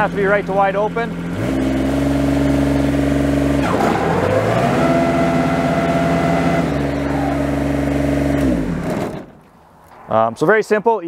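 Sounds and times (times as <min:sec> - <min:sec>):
diesel engine running: 0:00.0 - 0:09.4.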